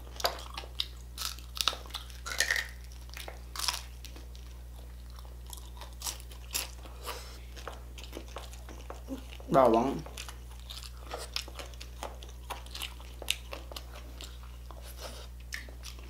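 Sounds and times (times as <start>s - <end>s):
crackling skin crunches: 0.0s - 14.7s
chewing crispy pork: 0.0s - 16.0s.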